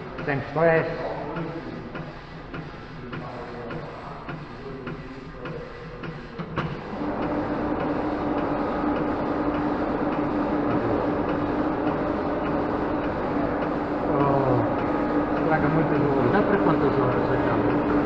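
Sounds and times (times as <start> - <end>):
machine humming and hissing: 0.0 - 18.0.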